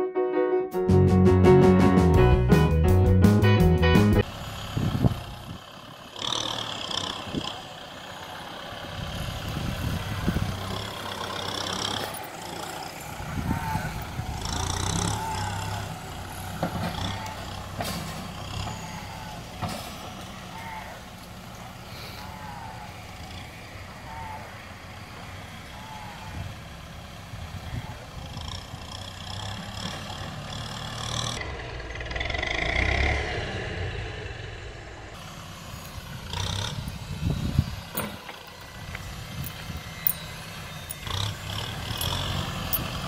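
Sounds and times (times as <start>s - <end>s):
tractor diesel engine under load: 1.4s - 43.0s.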